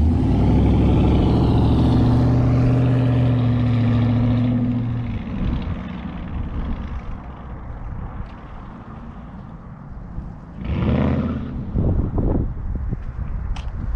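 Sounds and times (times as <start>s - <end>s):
car exhaust roaring: 0.0s - 12.9s.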